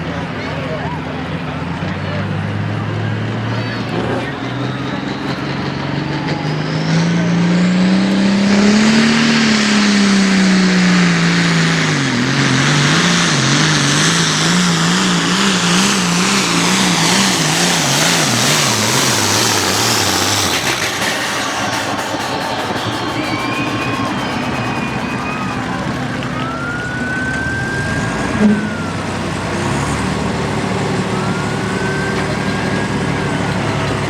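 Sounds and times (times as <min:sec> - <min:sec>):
tractor diesel engine labouring: 0:00.0 - 0:34.0.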